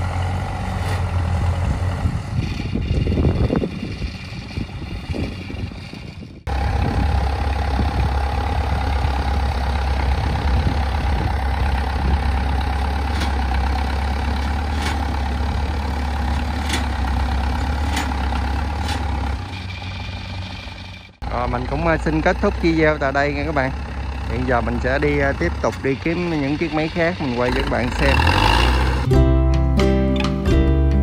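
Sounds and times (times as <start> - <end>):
tracked cart engine droning: 0.0 - 29.2.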